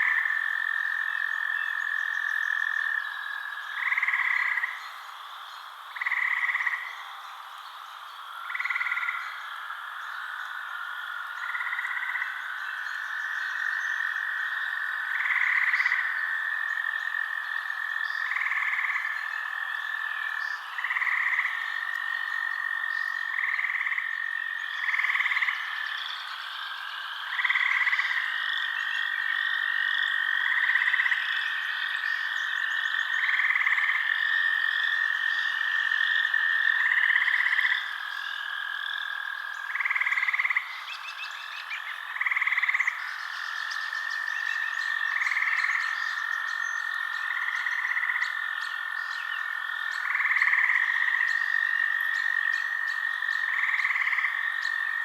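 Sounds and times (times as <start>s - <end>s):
frogs trilling: 0.0s - 55.0s
loud frog calls: 0.0s - 55.0s.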